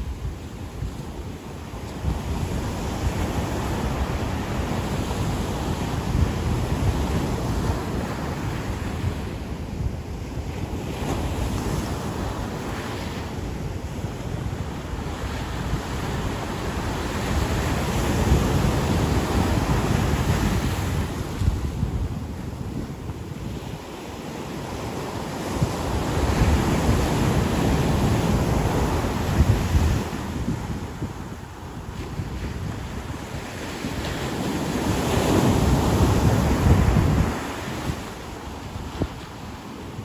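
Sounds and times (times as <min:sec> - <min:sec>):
ocean waves breaking on beach: 0:00.0 - 0:40.0
wind buffeting microphone: 0:00.0 - 0:40.0.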